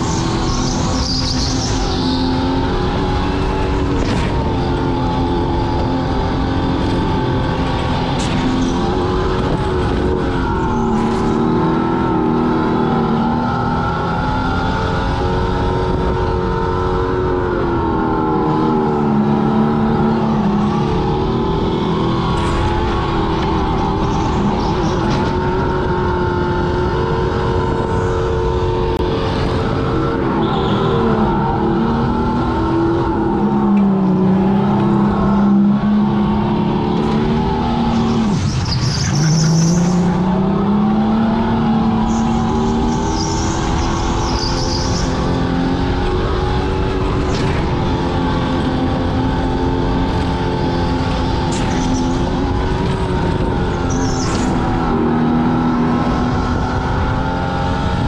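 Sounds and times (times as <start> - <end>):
tyres rumbling: 0.0 - 58.0
wind: 0.0 - 58.0.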